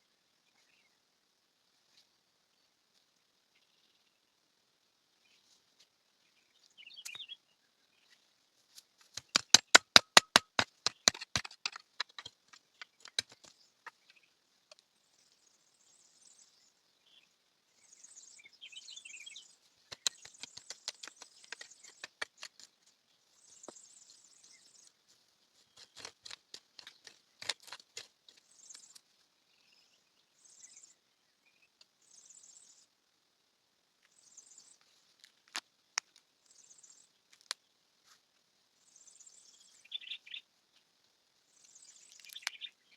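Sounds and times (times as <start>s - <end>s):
small birds chirping: 0.0s - 33.3s, 33.9s - 42.9s.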